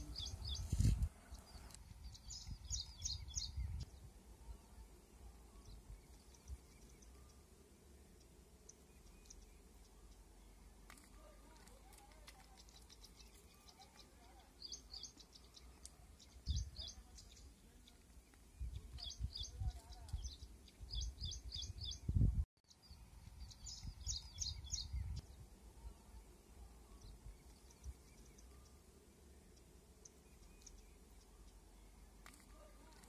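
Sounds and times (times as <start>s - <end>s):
small bird chirping: 0.0s - 7.5s, 8.1s - 33.0s.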